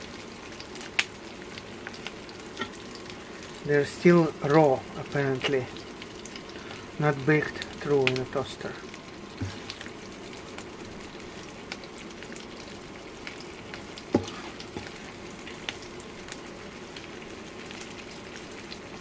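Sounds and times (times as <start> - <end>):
food sizzling in butter: 0.0 - 19.0.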